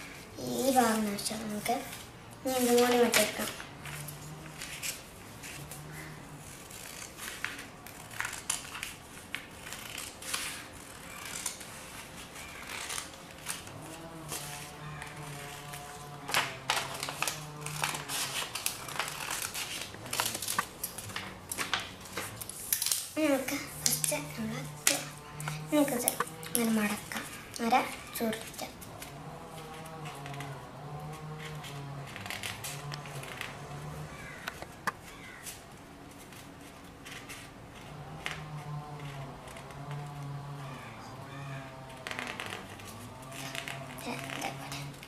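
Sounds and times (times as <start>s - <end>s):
scissors snipping paper: 0.6s - 38.4s.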